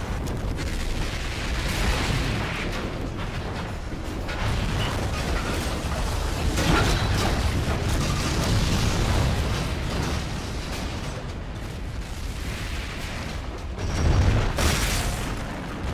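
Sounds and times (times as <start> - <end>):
debris crashing and clattering: 0.0 - 15.9
deep rumble of explosions: 0.0 - 15.9.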